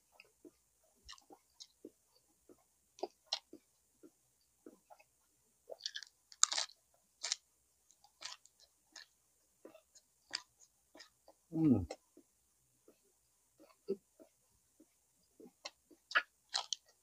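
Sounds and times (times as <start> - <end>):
person chewing and eating: 0.0 - 17.0.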